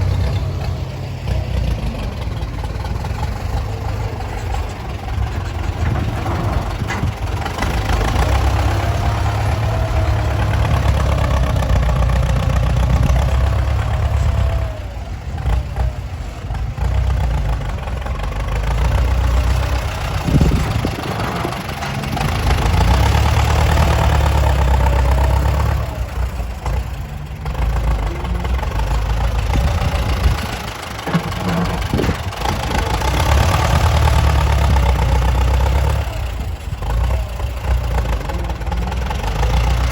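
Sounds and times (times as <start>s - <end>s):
heavy diesel engines rumbling: 0.0s - 39.9s.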